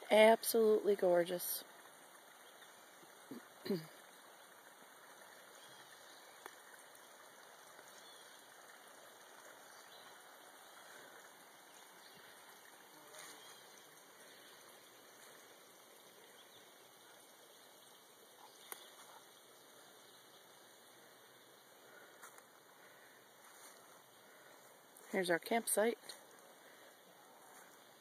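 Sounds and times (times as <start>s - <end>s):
river running over rocks: 0.0s - 28.0s.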